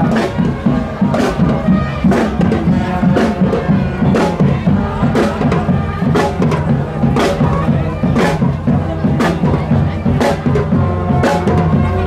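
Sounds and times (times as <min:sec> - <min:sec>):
marching band playing: 0:00.0 - 0:12.0
strong drum beat: 0:00.0 - 0:12.0.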